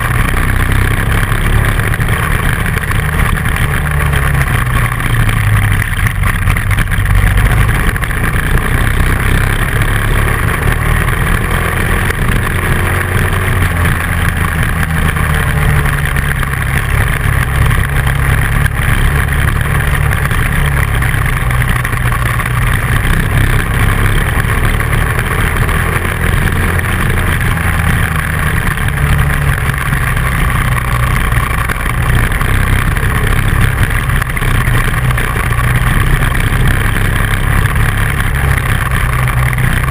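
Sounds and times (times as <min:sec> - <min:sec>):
motorcycle engine running: 0:00.0 - 0:39.9
road and wind rumble: 0:00.0 - 0:39.9.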